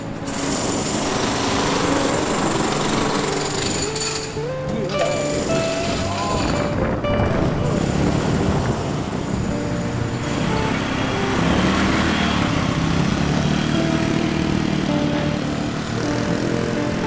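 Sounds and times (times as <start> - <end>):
scooter engine running: 0.0 - 17.0
street traffic: 0.0 - 17.0.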